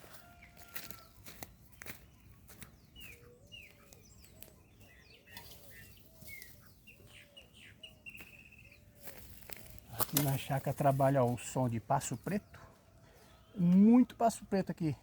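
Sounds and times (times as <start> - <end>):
blackbirds calling: 0.0 - 15.0.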